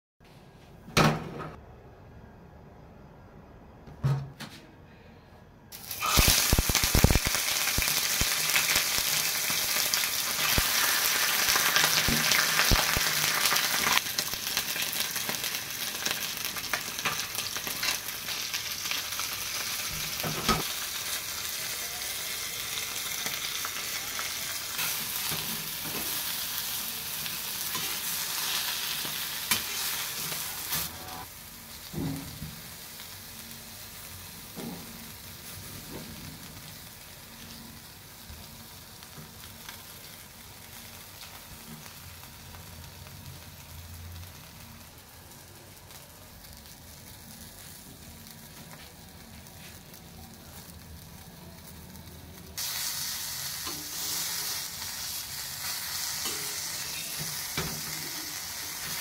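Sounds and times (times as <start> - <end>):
fish sizzling in hot oil: 5.8 - 48.4, 49.4 - 59.0.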